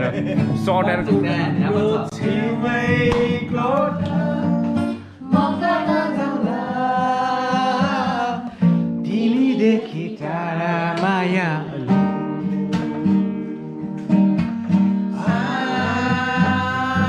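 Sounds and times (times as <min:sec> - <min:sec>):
man singing: 0:00.0 - 0:04.9, 0:06.3 - 0:14.1, 0:15.1 - 0:17.0
guitar: 0:00.0 - 0:17.0.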